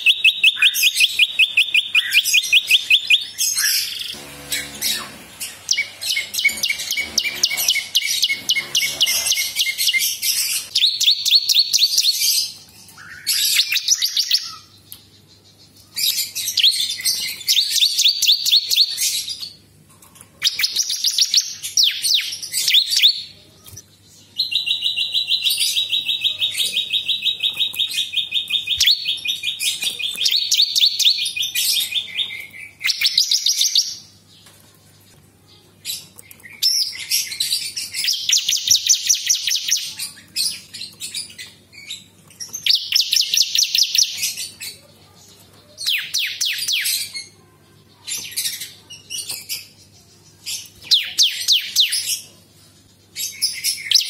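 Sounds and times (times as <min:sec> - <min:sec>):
bird singing trilled song: 0:00.0 - 0:34.5, 0:35.4 - 0:44.8, 0:45.4 - 0:52.4, 0:53.1 - 0:54.0.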